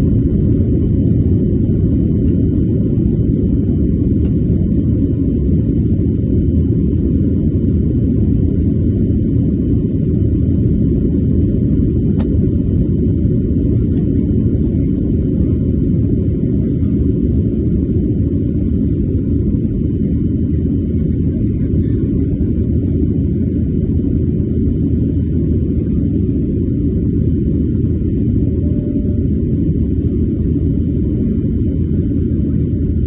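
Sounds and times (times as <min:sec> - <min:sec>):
jet engine rumble in cabin: 0:00.0 - 0:33.0.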